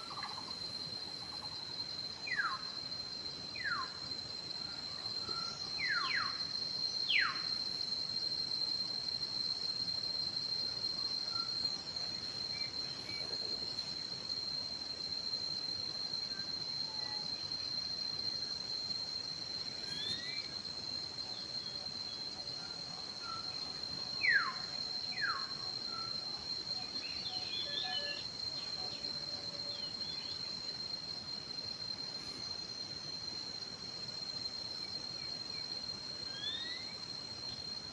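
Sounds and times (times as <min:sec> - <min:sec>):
insect drone: 0:00.0 - 0:37.9.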